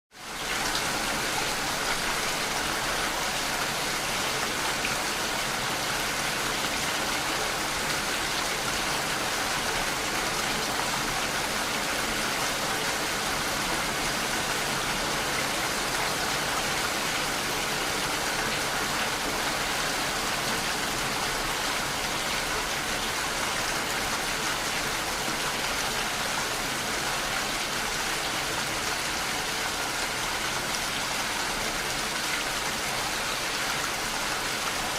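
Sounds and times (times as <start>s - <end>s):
steady rainfall: 0.1s - 34.9s.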